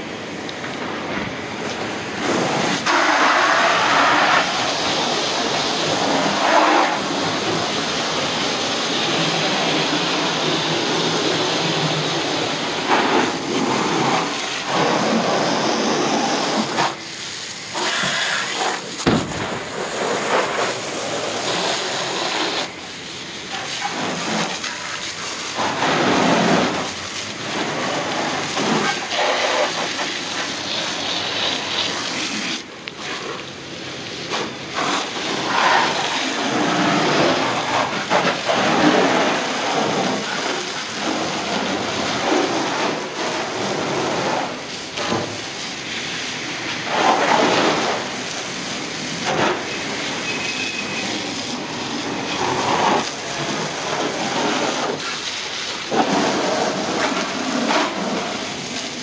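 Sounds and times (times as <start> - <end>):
pressure washer spraying water: 0.0 - 59.0.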